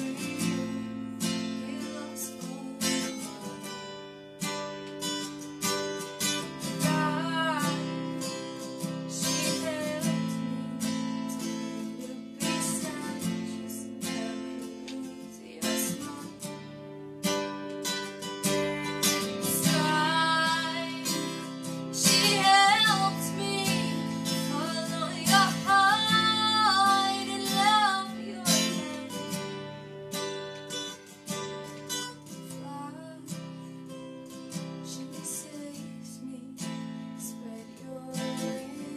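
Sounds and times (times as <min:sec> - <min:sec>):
woman singing: 0:00.0 - 0:04.0, 0:06.2 - 0:17.4, 0:18.5 - 0:29.8, 0:32.3 - 0:34.0, 0:34.6 - 0:38.9
acoustic guitar strumming: 0:00.0 - 0:38.9.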